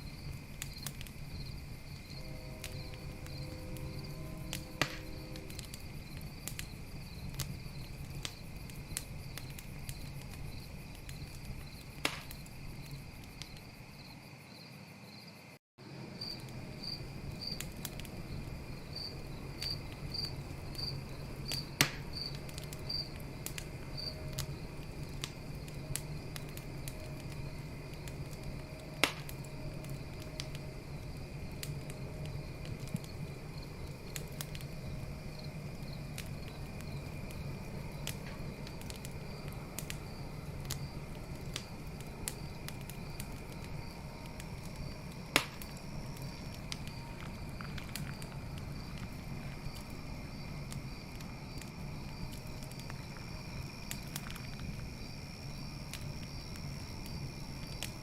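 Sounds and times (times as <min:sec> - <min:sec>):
campfire crackling and popping: 0:00.0 - 0:14.0, 0:15.9 - 0:58.0
cricket chirping: 0:00.0 - 0:58.0
night insects chorus: 0:00.0 - 0:58.0.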